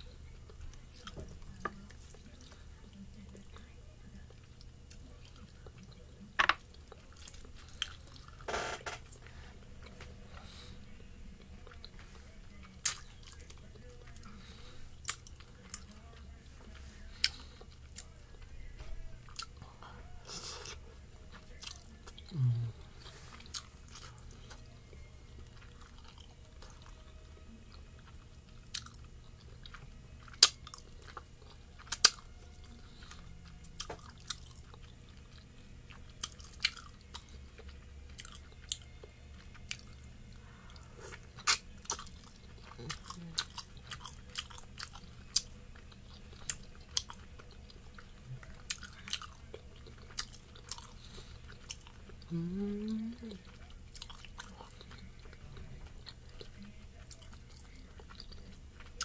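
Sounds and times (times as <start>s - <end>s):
chewing with wet mouth clicks: 0.5s - 8.4s, 11.4s - 22.5s, 23.4s - 59.0s.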